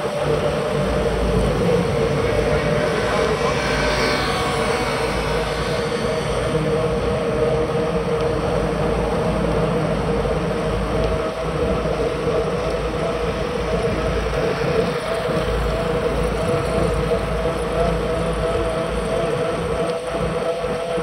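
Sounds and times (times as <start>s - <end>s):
bicycle road noise: 0.0s - 21.0s
steady hum: 0.0s - 21.0s.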